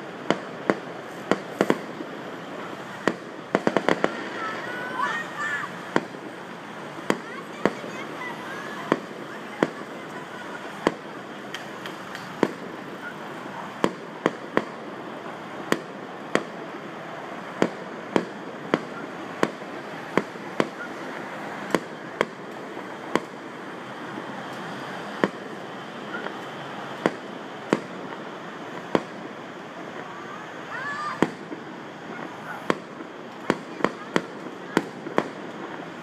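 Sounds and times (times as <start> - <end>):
distant fireworks bursting: 0.0 - 36.0
steady background noise: 0.0 - 36.0.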